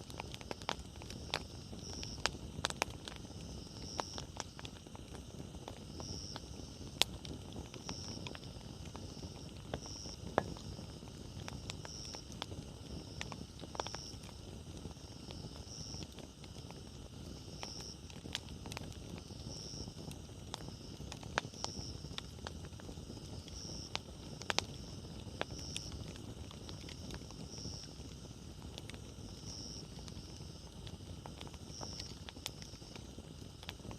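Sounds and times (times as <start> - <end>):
campfire crackling and popping: 0.0 - 33.9
fire low rumble: 0.0 - 33.9.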